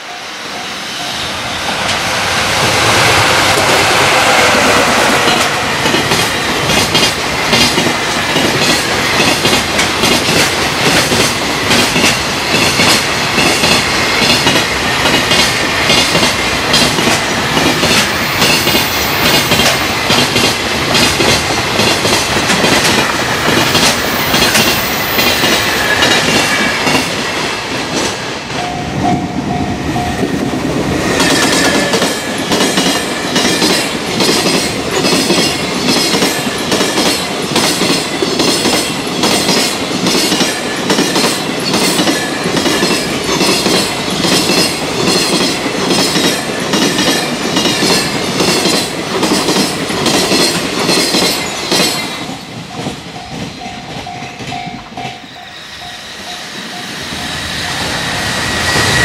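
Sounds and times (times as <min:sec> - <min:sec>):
train wheels clattering over rail joints: 0:04.6 - 0:28.8, 0:31.1 - 0:55.2.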